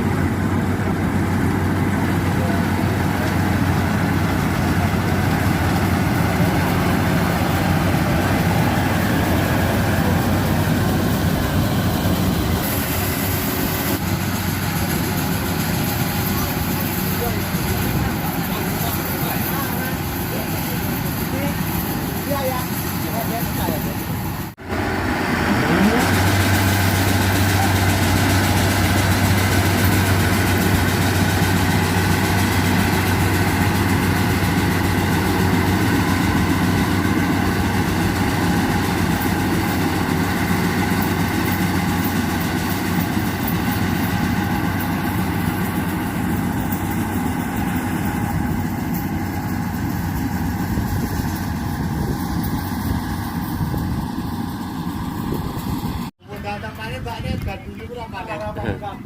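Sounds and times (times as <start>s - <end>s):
diesel engine running: 0.0s - 57.1s.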